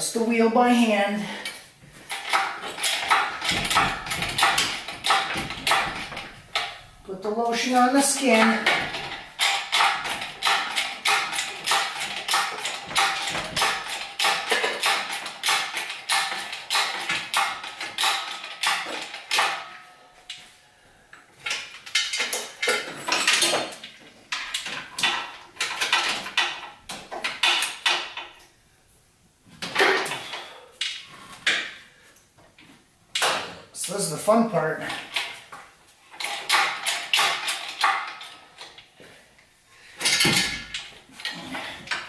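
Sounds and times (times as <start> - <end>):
metallic clicks and clanks: 1.3 - 28.5, 29.6 - 31.8, 33.1 - 39.0, 40.0 - 42.0.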